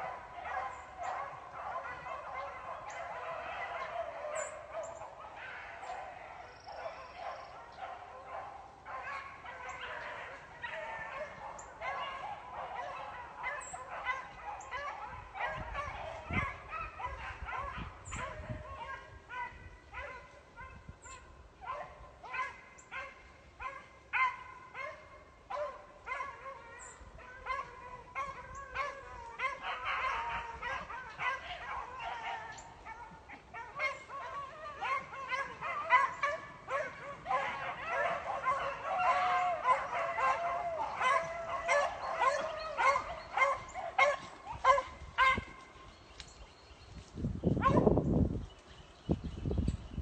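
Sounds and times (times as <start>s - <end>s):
dogs barking: 0.0s - 45.8s, 47.5s - 48.0s
dogs howling: 0.0s - 45.8s.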